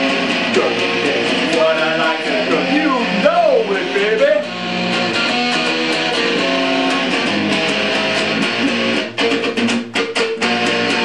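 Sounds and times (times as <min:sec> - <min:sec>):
electric guitar playing: 0:00.0 - 0:11.0.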